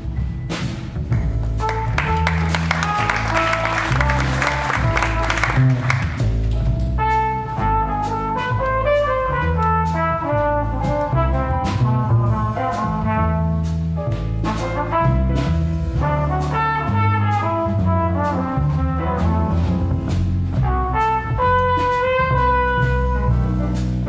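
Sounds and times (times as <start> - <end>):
jazz quartet playing a ballad: 0.0 - 24.0
trumpet melody: 1.5 - 6.2, 7.0 - 24.0.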